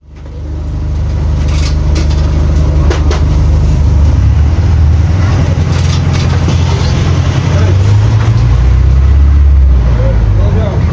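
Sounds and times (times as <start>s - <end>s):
bus diesel engine drone: 0.0s - 10.9s.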